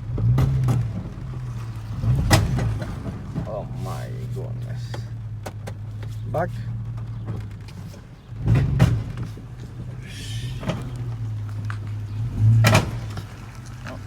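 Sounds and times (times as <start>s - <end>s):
heavy driveline clunks: 0.0s - 14.0s
pickup truck driving drone: 0.0s - 14.0s.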